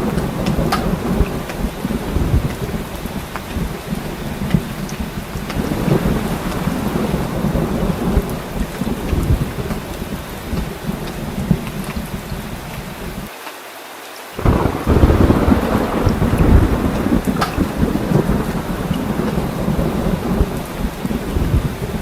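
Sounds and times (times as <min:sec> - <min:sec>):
low rolling thunder: 0:00.0 - 0:13.3, 0:14.4 - 0:22.0
heavy rain: 0:00.0 - 0:22.0.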